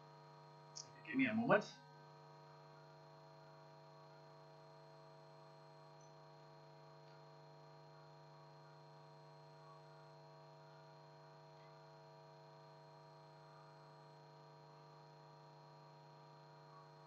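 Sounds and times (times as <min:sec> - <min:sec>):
steady electrical hum: 0:00.6 - 0:17.0.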